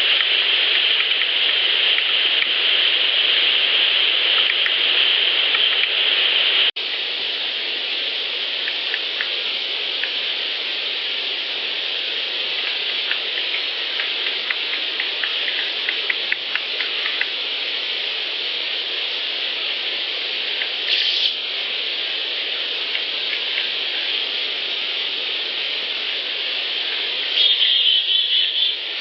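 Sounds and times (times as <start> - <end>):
outdoor ambient hiss: 0.0 - 29.0.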